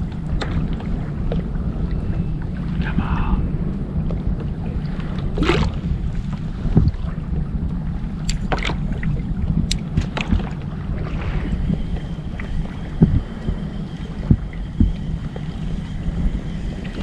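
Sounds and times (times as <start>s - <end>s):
water against kayak: 0.0s - 17.0s
wind rumbling on microphone: 0.0s - 17.0s.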